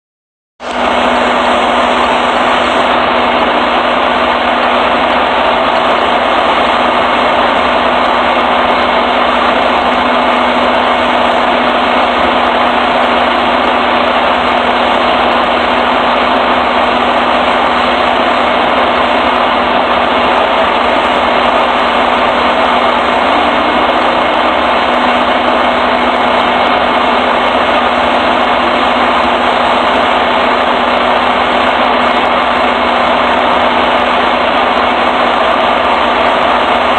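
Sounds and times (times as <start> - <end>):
truck engine idling: 0.6 - 36.9.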